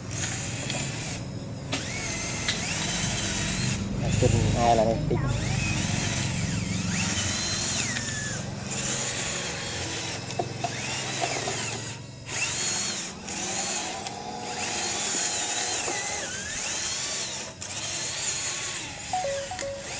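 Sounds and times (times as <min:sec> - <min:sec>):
toy gear motors whining: 0:00.0 - 0:19.9.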